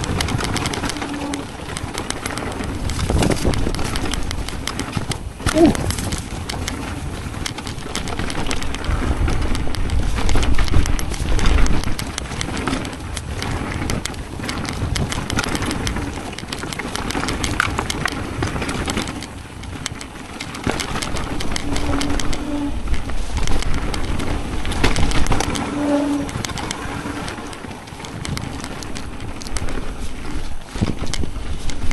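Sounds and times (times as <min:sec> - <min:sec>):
tyres crunching over gravel: 0:00.0 - 0:31.9
wind rumble on microphone: 0:00.0 - 0:31.9.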